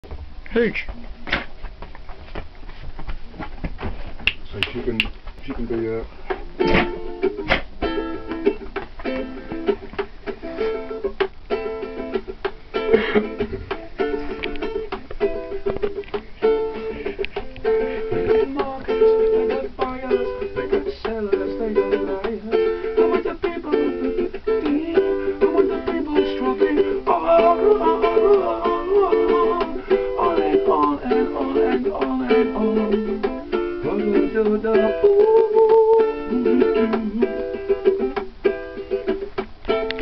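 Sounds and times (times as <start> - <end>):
ukulele playing a tune: 5.4 - 40.0.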